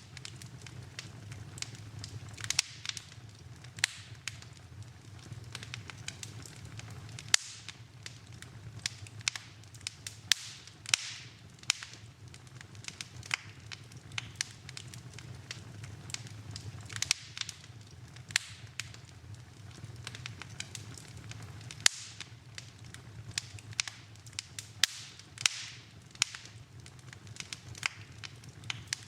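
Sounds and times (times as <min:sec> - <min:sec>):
low steady hum: 0:00.0 - 0:29.0
wood fire crackling and popping: 0:00.0 - 0:29.0.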